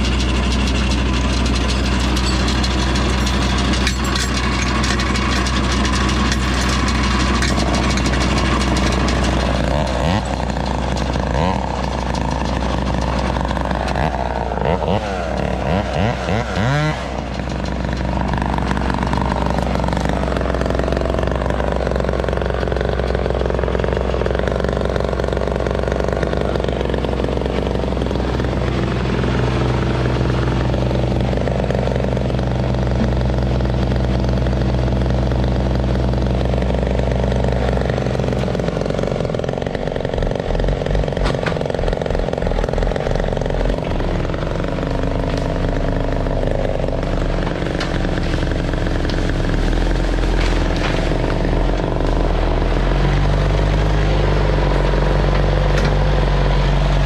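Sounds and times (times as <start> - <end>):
engine droning: 0.0 - 57.0.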